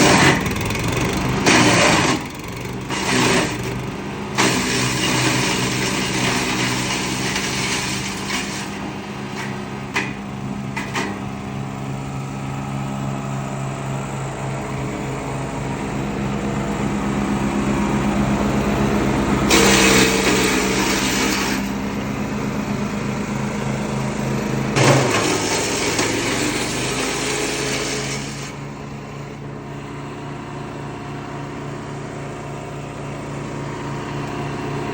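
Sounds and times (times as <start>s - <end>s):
woodchipper engine humming: 0.0s - 34.9s
woodchipper grinding: 0.0s - 34.9s.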